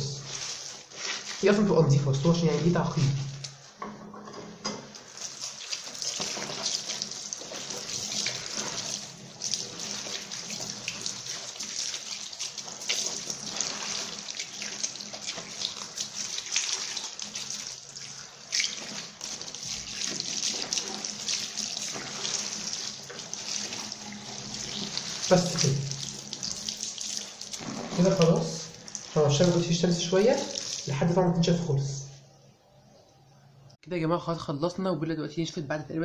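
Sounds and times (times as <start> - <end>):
towel splashing in soapy water: 0.0 - 3.5, 4.9 - 31.0
tap water running: 0.0 - 31.1.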